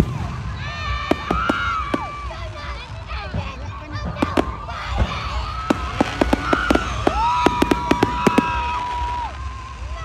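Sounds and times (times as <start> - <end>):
fireworks cracks and bangs: 0.0 - 10.0
spectators talking: 0.0 - 10.0.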